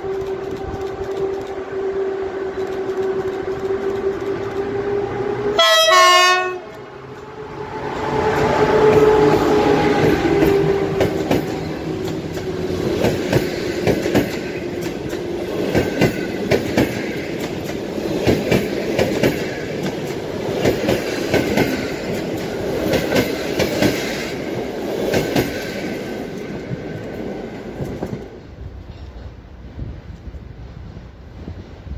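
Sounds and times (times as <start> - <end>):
train wheels clicking over rail joints: 0.0 - 1.8, 2.4 - 5.2, 8.1 - 29.4
steady train rumble: 0.0 - 31.9.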